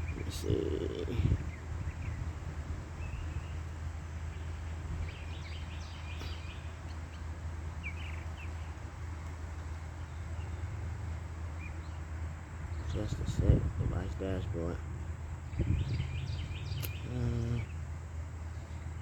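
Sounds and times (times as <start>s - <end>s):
birds chirping: 0.0s - 19.0s
low outdoor rumble: 0.0s - 19.0s.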